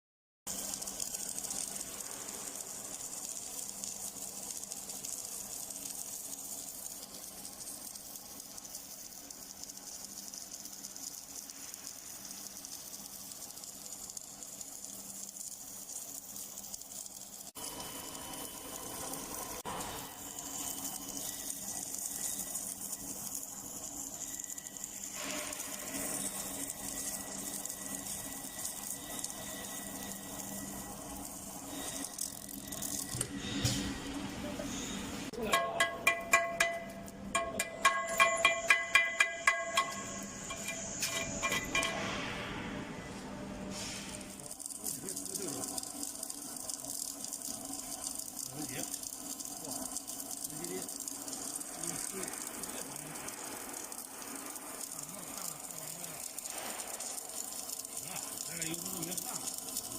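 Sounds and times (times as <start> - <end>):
welding machine hiss: 0.5 - 35.3, 37.6 - 42.2, 43.7 - 59.9.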